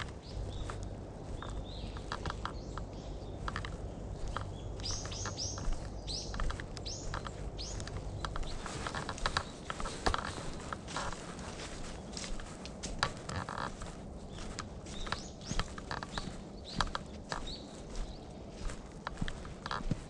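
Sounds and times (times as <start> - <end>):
footsteps crunching on path: 0.0 - 20.0
small birds calling: 0.0 - 20.0.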